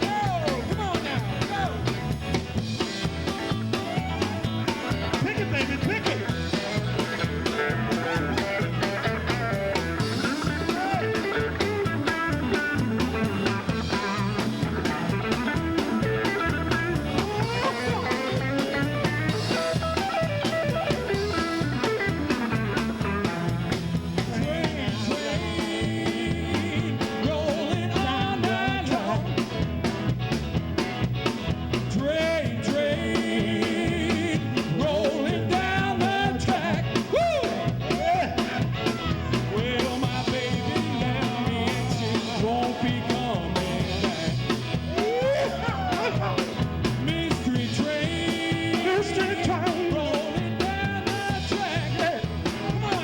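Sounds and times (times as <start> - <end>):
drum kit: 0.0 - 53.0
electric guitar: 0.0 - 53.0
live blues-rock band: 0.0 - 53.0
person singing: 2.8 - 29.6, 31.7 - 53.0.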